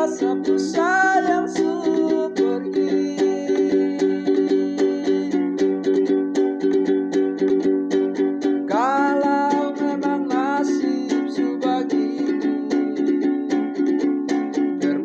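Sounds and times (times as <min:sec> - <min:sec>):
person singing: 0:00.0 - 0:15.0
ukulele strumming: 0:00.0 - 0:15.0.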